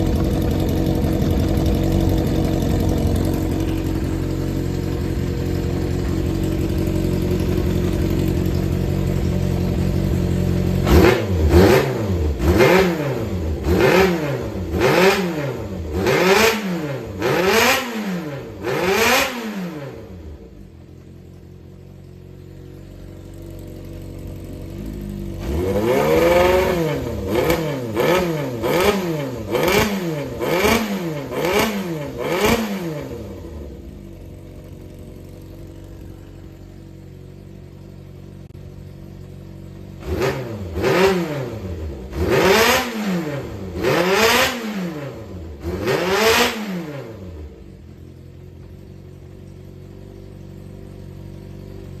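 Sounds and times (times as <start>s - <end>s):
motorcycle engine idling and revving: 0.0s - 52.0s.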